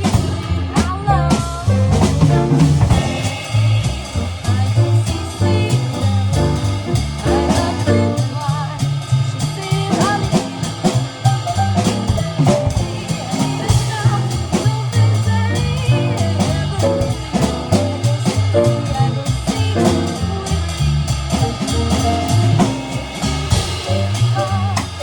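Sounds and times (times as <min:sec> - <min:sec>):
bass line: 0:00.0 - 0:25.0
drum kit: 0:00.0 - 0:25.0.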